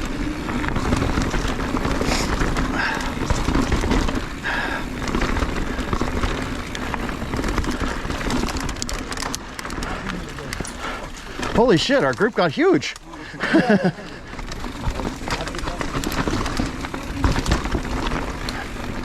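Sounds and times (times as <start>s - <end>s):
bike clattering over rocks: 0.0s - 19.0s.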